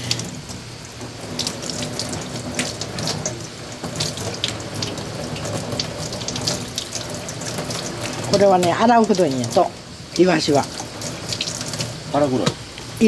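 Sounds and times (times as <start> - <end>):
tap water running into a sink: 0.0 - 13.0.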